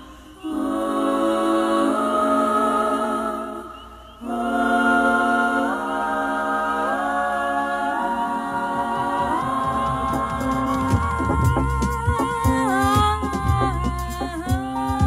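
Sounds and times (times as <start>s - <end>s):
a cappella group singing chords: 0.0s - 15.0s.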